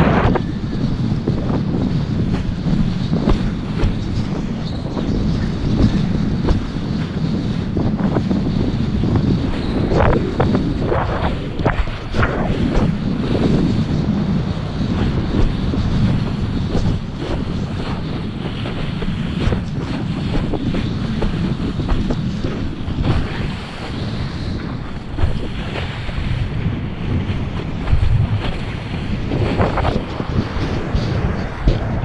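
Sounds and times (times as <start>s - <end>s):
board slapping water: 0.0s - 32.0s
wind buffeting microphone: 0.0s - 32.0s.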